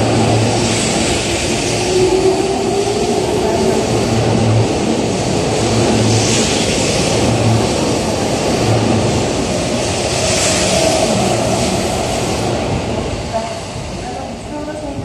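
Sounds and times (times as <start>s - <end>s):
electric train accelerating: 0.0s - 15.0s
wheels rumbling on rail: 0.0s - 15.0s.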